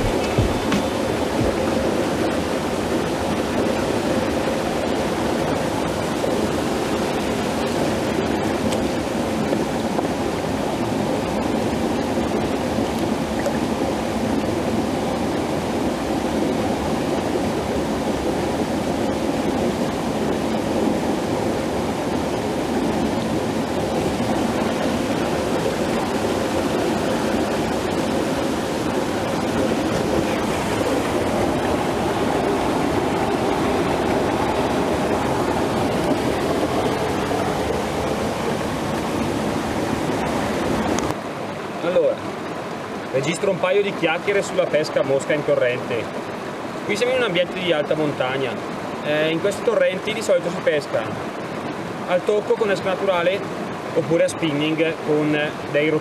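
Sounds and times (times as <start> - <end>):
creek rushing over rocks: 0.0 - 56.0.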